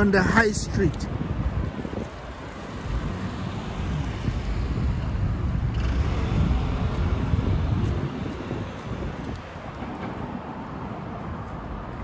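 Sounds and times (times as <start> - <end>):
road traffic rumble: 0.0 - 12.0
wind on microphone: 0.0 - 12.0.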